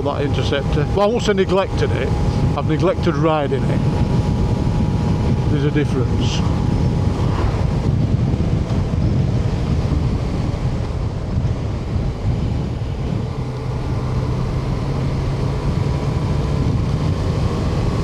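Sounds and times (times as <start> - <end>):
motorcycle engine cruising: 0.0 - 18.0
wind noise on microphone: 0.0 - 18.0.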